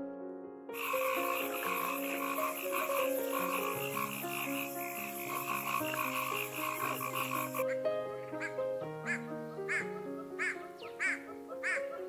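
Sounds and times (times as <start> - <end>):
soft background music: 0.1 - 12.0
frog croaking: 0.8 - 12.0.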